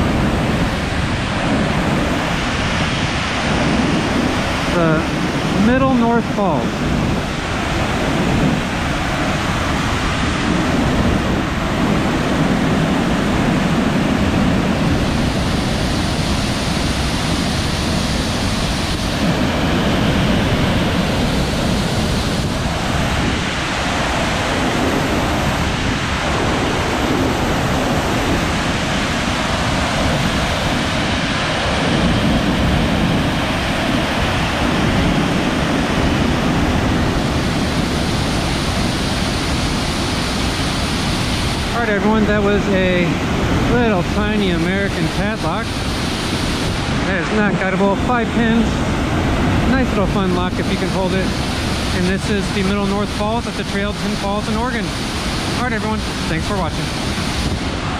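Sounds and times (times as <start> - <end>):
waterfall roaring onto rocks: 0.0 - 57.9.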